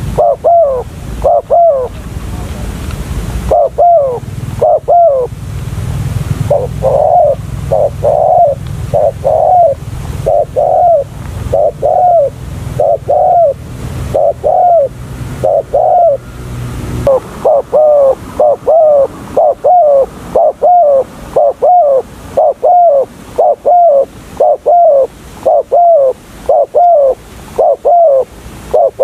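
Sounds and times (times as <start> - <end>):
doves cooing: 0.0 - 2.8, 3.4 - 5.4, 6.4 - 16.4, 17.0 - 29.0.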